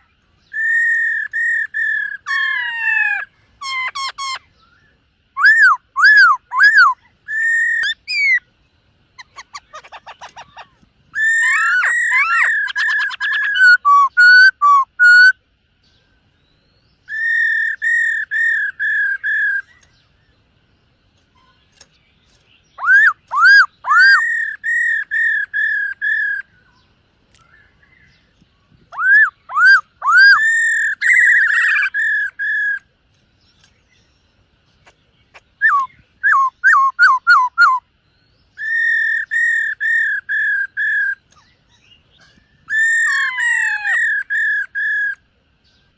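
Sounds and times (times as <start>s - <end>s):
bird singing whistled notes: 0.0s - 20.4s, 21.3s - 34.4s, 35.2s - 45.9s.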